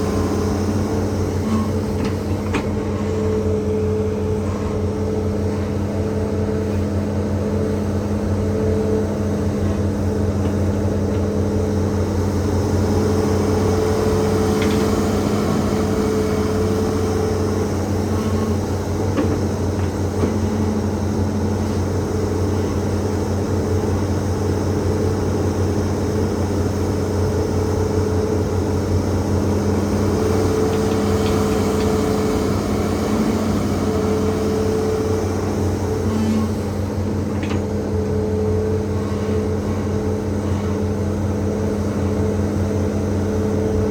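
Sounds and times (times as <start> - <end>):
excavator diesel engine humming: 0.0 - 43.9.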